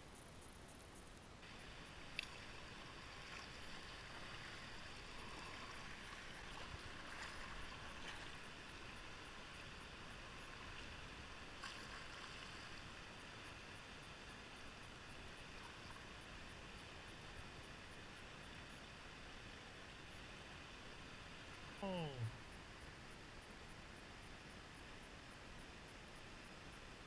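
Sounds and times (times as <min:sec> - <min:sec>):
river water rushing and gurgling: 0:01.4 - 0:27.0.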